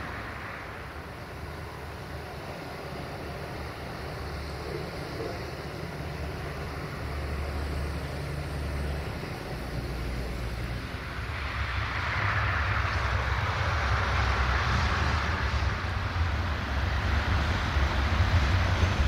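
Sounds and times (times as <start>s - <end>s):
diesel train engine rumble: 0.0s - 19.0s
train rushing noise: 0.0s - 19.0s.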